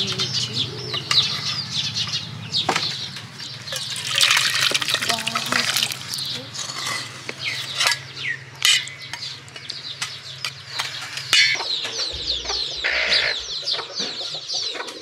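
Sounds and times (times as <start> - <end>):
chicks cheeping: 0.0 - 15.0
hen clucking: 0.0 - 15.0.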